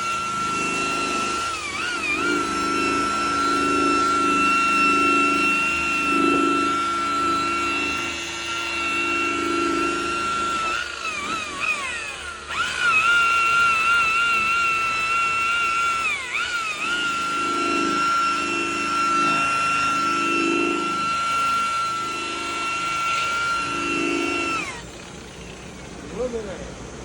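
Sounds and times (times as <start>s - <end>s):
electric sander whining: 0.0s - 27.0s.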